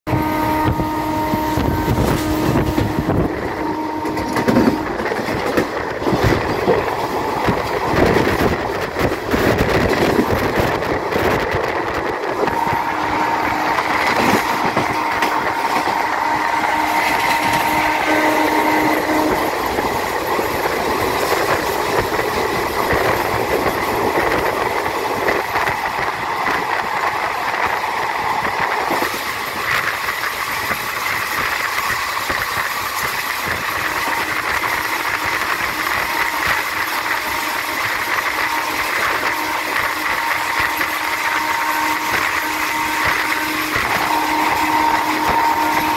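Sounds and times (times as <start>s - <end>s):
train wheels clattering over rails: 1.6s - 45.9s.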